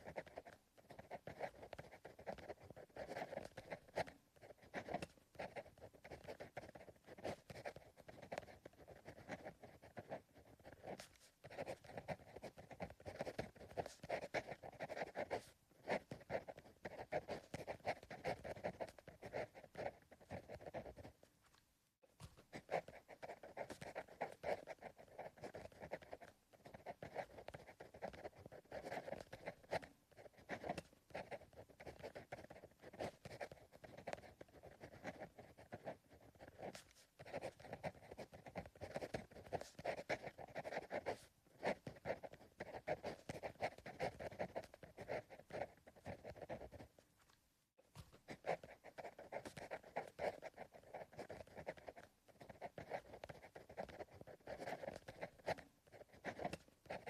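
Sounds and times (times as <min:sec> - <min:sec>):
pencil writing on paper: 0:00.0 - 0:21.3, 0:22.1 - 0:47.0, 0:47.9 - 0:57.0.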